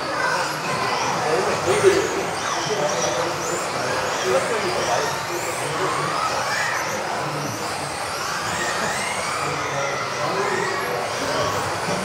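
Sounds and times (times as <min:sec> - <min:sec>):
electric rc car motors whining: 0:00.0 - 0:12.0.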